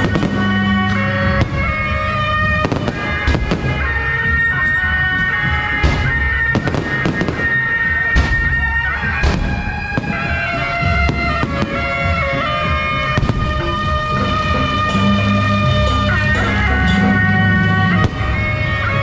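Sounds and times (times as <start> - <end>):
fireworks cracking and banging: 0.0 - 19.0
reedy wind instrument melody: 0.0 - 19.0.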